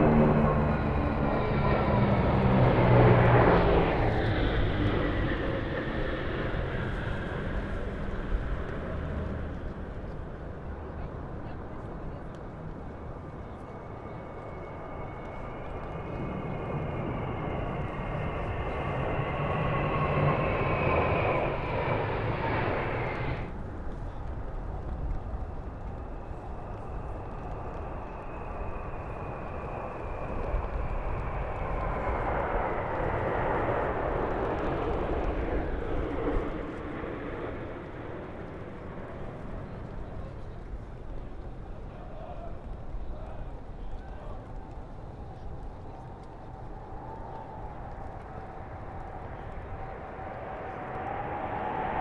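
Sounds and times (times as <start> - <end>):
jet engine high whine: 0.0 - 12.1, 12.7 - 42.0, 42.6 - 52.0
military jet flying over: 0.0 - 52.0.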